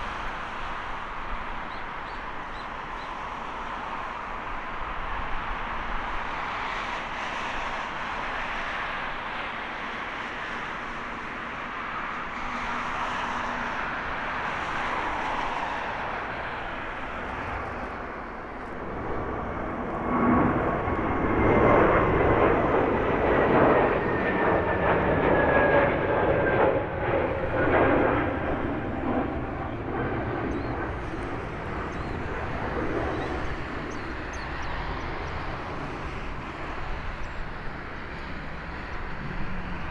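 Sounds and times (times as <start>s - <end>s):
jet engines at takeoff thrust: 0.0s - 39.9s.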